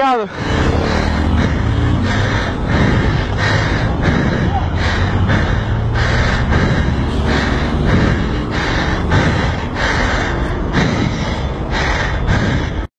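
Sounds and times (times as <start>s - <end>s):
rhythmic panting breaths: 0.0s - 12.9s
motorcycle engine and wind rumble: 0.4s - 11.4s.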